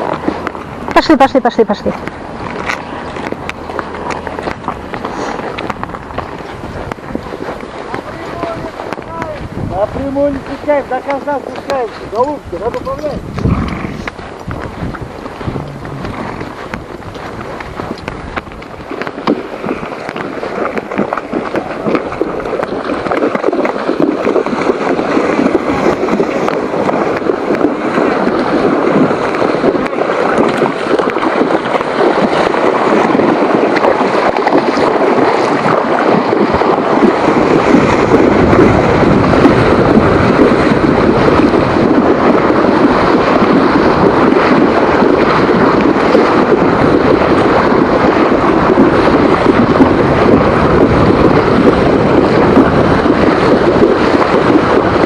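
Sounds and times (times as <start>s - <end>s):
deep rumble: 0.0s - 10.5s, 12.0s - 19.3s, 23.8s - 55.0s
wind buffeting the microphone: 0.0s - 55.0s.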